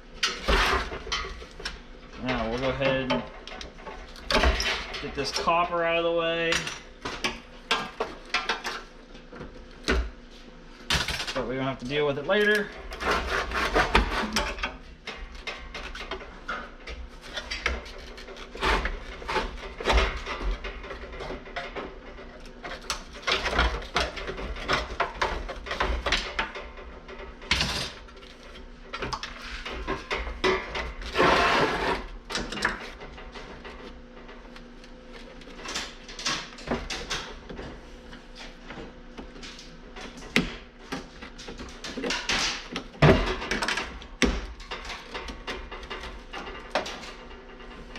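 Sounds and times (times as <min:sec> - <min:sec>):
metal clanks and rattles: 0:00.1 - 0:08.9, 0:10.9 - 0:37.8, 0:38.4 - 0:47.9.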